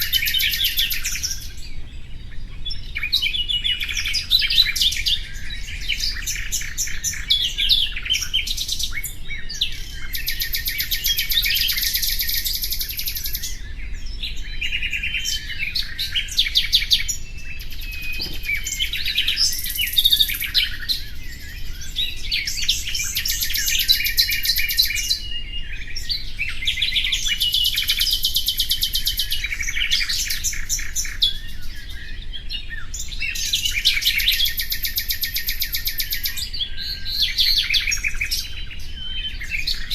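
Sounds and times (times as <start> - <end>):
songbird trilling: 0.0 - 39.9.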